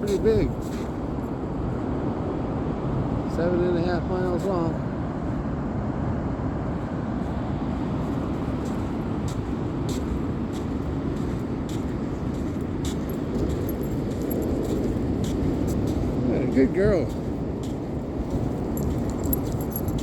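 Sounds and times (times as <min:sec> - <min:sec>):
ocean surf: 0:00.0 - 0:20.0.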